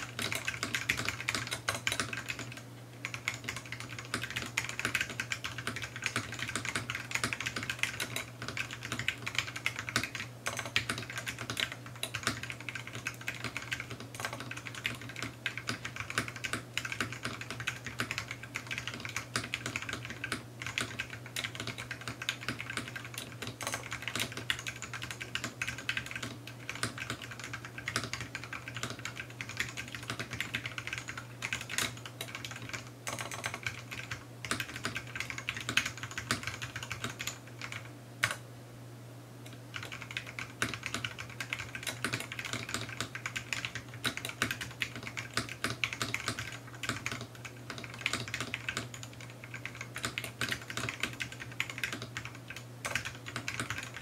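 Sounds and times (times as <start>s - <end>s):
fast mechanical keyboard typing: 0.0s - 38.4s, 39.7s - 54.0s.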